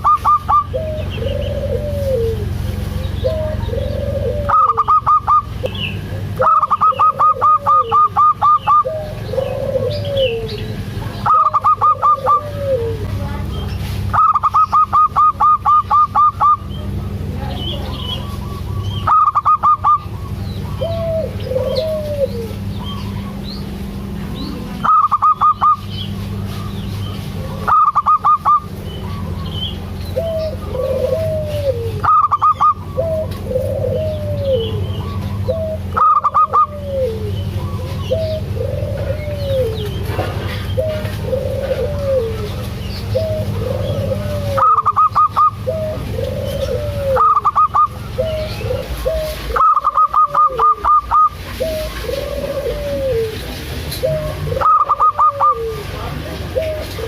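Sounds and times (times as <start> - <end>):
dove high staccato notes: 0.0 - 2.4, 3.1 - 10.6, 11.2 - 13.1, 14.0 - 17.3, 18.0 - 55.9
dove cooing: 0.0 - 57.0
steady low hum: 0.0 - 57.0.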